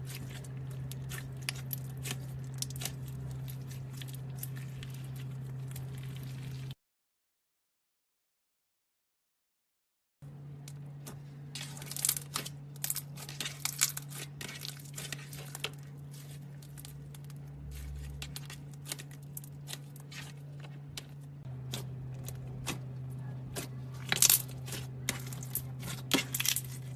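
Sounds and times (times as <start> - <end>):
steady low hum: 0.0 - 6.8, 10.2 - 26.9.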